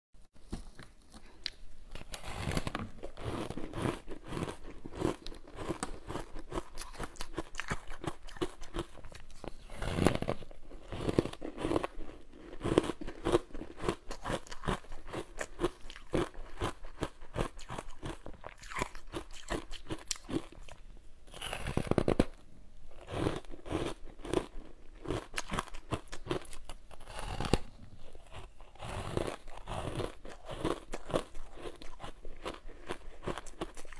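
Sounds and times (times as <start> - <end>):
ice being chewed: 1.2 - 33.9.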